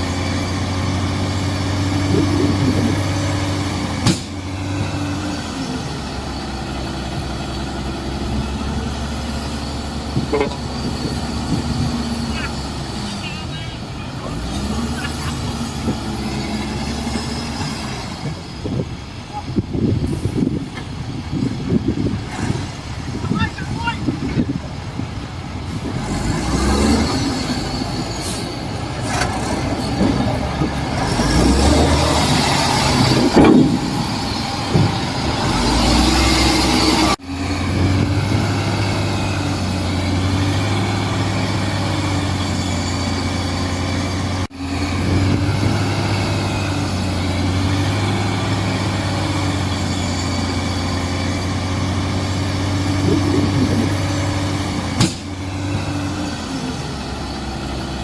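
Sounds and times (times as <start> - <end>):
diesel construction machinery engine: 0.0 - 58.0.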